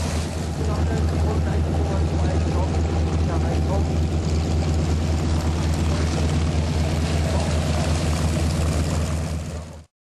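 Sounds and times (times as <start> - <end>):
propeller aircraft engine drone: 0.0 - 9.9.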